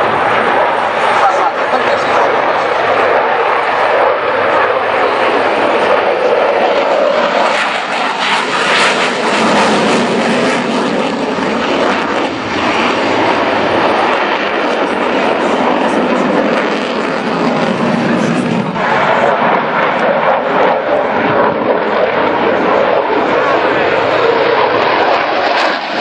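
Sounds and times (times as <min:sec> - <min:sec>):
fighter jet engine rushing: 0:00.0 - 0:26.0.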